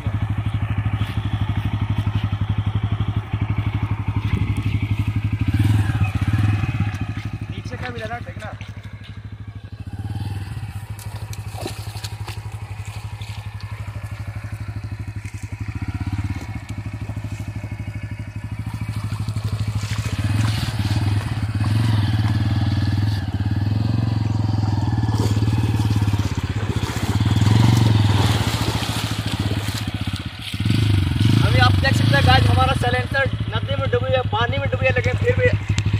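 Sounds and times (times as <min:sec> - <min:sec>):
motorcycle engine at low revs: 0:00.0 - 0:35.9
tyres splashing through muddy water: 0:00.0 - 0:35.9.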